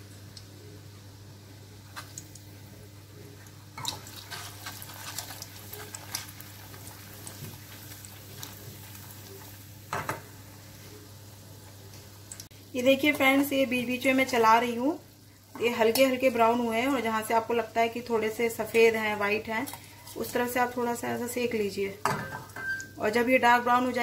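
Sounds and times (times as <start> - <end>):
dough frying with crackles: 0.0 - 24.0.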